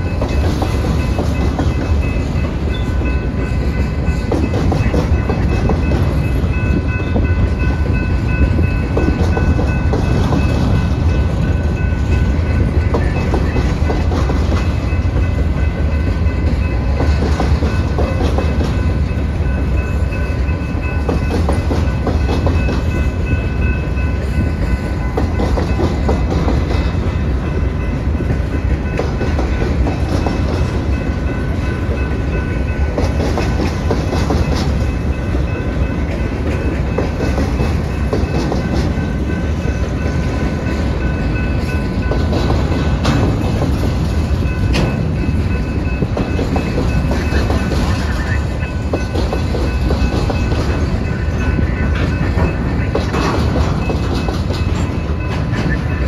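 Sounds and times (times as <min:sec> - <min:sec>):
freight train rumbling past: 0:00.0 - 0:56.0
train wheels clacking on rail joints: 0:00.0 - 0:56.0.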